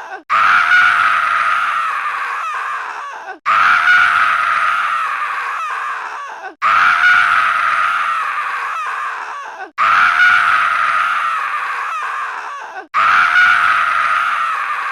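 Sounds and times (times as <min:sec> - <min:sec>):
scream-like cry: 0:00.0 - 0:14.9.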